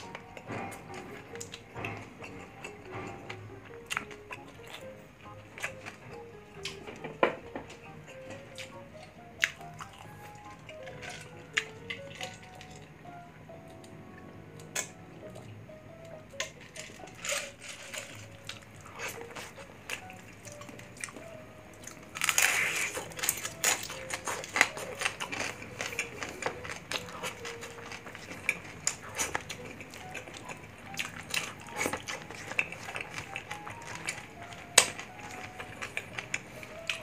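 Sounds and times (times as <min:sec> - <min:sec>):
crunchy chewing: 0:00.0 - 0:12.9, 0:16.3 - 0:37.0
faint background music: 0:00.0 - 0:37.0.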